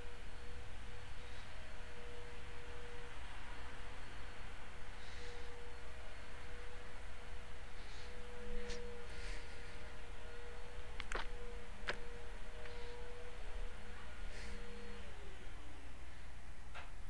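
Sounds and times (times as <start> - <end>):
faint electrical tone and hiss: 0.0 - 17.0.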